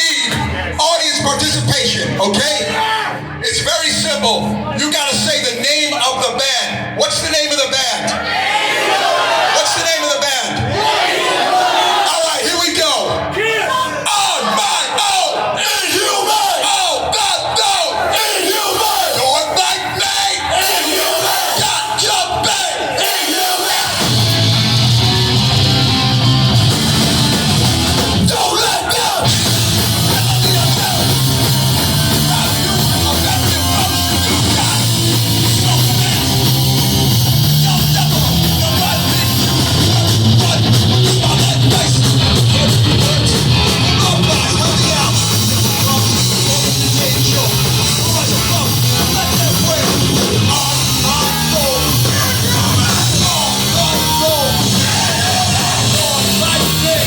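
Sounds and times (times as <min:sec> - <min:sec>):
loud live rock music: 0:00.0 - 0:08.2, 0:14.0 - 0:57.0
yelled vocals: 0:07.2 - 0:57.0.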